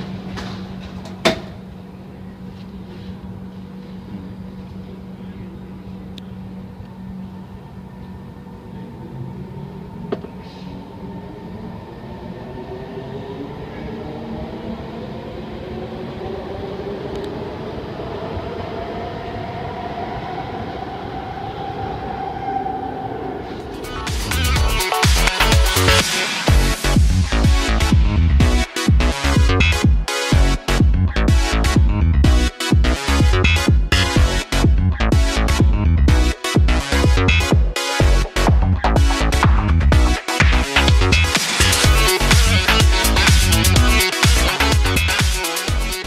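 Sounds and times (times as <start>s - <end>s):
steady train hum: 0.0s - 46.0s.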